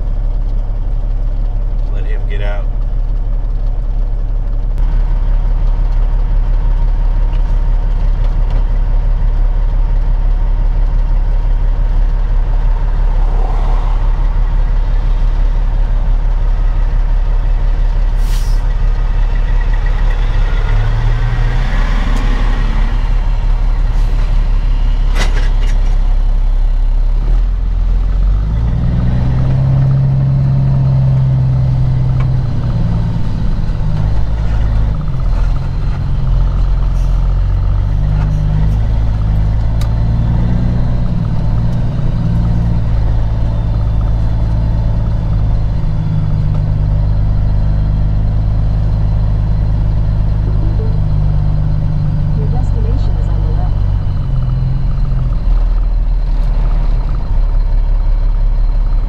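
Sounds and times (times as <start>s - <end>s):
diesel truck engine idling: 0.0s - 59.0s
semi truck passing: 0.0s - 59.0s.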